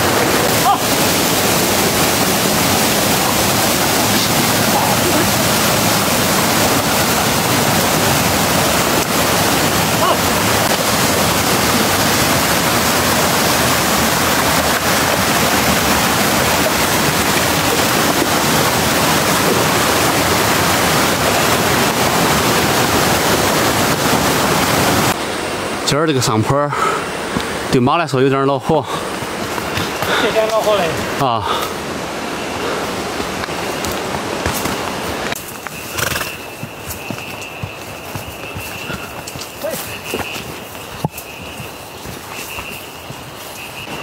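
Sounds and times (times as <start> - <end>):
stream rushing over rocks: 0.0 - 44.0.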